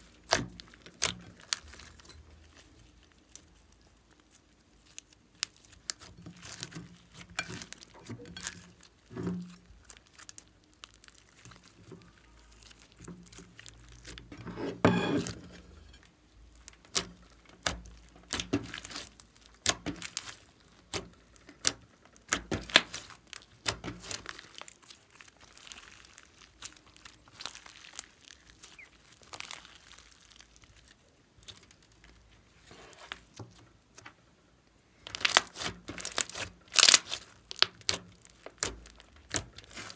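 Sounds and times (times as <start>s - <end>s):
slime squish: 0.0s - 34.2s, 34.9s - 39.9s.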